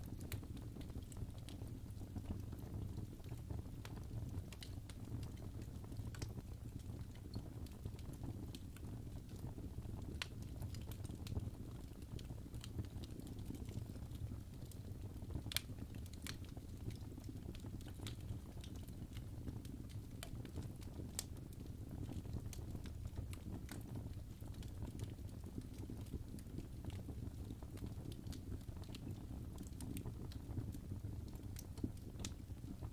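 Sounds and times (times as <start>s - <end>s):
fireplace fire crackling: 0.0s - 32.9s.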